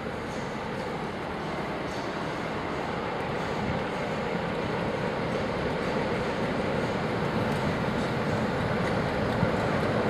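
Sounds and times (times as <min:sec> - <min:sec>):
diesel locomotive engine running: 0:00.0 - 0:10.0.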